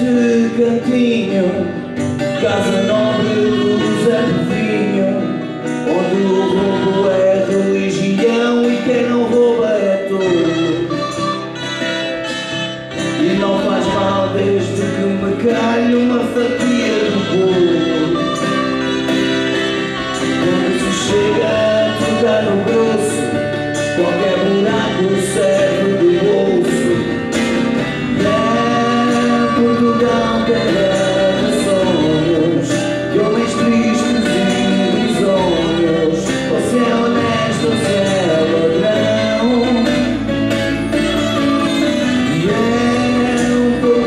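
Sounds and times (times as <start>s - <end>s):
acoustic and electric guitars: 0.0s - 44.0s
bending lead melody: 0.0s - 44.0s.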